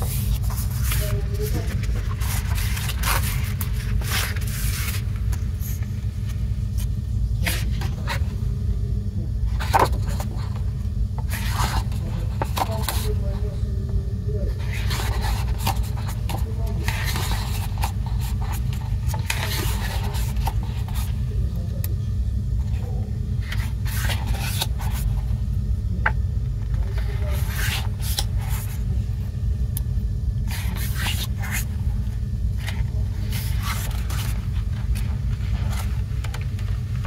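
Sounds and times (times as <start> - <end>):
book pages turning: 0.0 - 8.4, 9.4 - 13.5, 14.5 - 21.4, 22.6 - 25.4, 26.0 - 29.0, 30.4 - 37.0
paper rubbing: 0.0 - 8.4, 9.5 - 13.6, 14.5 - 21.4, 22.6 - 25.4, 26.7 - 29.0, 30.4 - 37.0.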